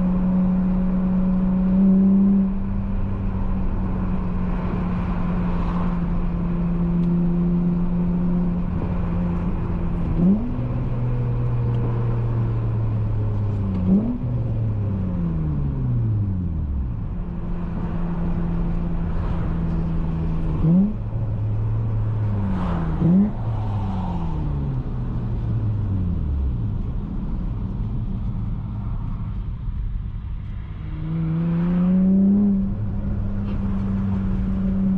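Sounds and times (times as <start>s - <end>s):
car engine revving: 0.0s - 27.8s, 30.5s - 34.9s.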